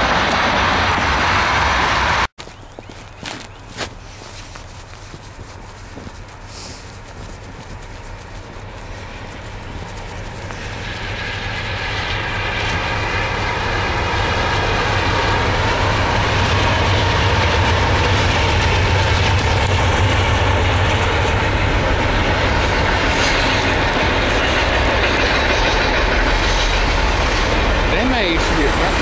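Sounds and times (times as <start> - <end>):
diesel locomotive engine rumble: 0.0 - 29.0
steady whine: 5.6 - 29.0.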